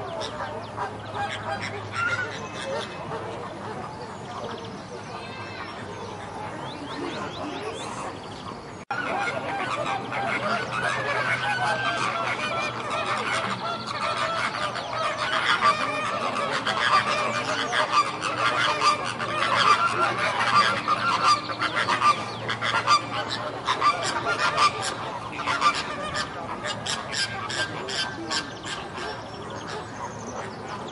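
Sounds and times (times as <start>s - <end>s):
flamingos honking: 0.0s - 8.3s, 8.9s - 30.9s.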